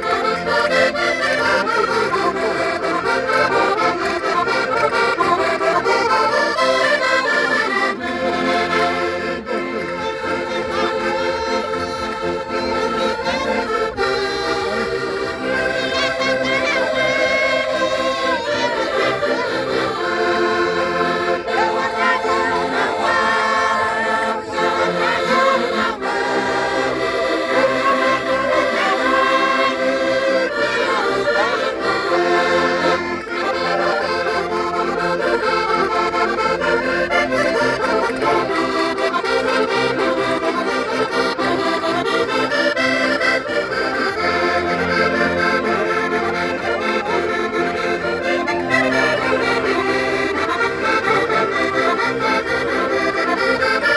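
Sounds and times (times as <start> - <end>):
concertinas playing folk tune: 0.0 - 53.9
voices singing along: 0.0 - 53.9.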